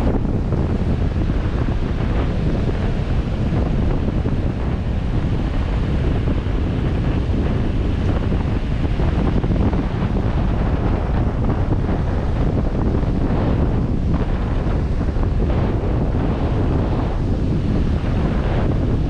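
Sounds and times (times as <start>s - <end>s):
breaking surf: 0.0s - 19.0s
wind buffeting microphone: 0.0s - 19.0s.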